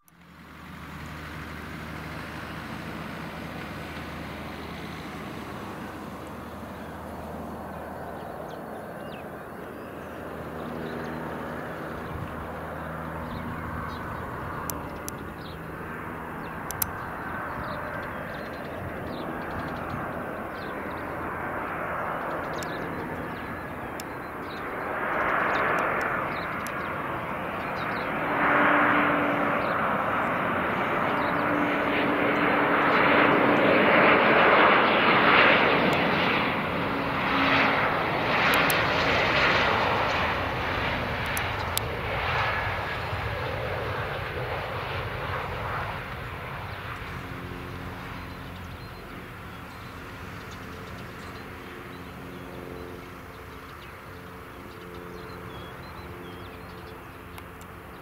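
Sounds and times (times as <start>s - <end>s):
jet engines humming and whining: 0.0s - 58.0s.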